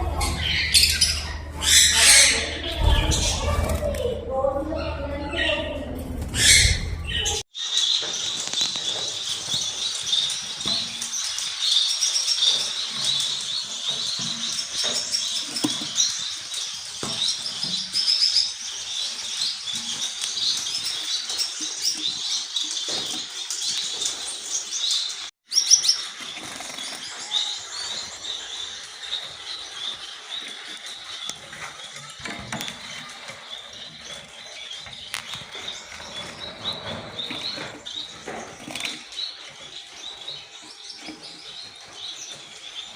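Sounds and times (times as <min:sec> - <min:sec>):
parrots chirping and chattering: 0:00.0 - 0:42.9.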